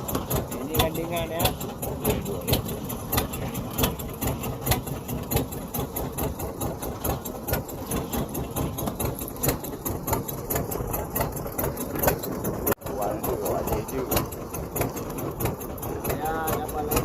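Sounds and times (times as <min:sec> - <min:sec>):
boat engine with rapid clacking: 0:00.0 - 0:17.0.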